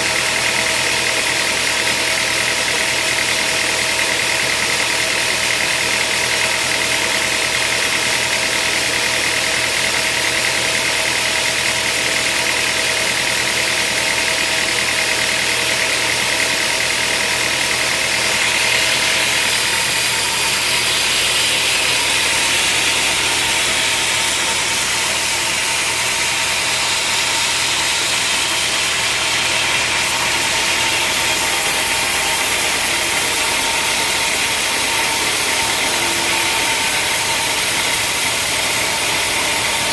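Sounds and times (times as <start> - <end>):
sawmill machinery humming and hissing: 0.0 - 39.9.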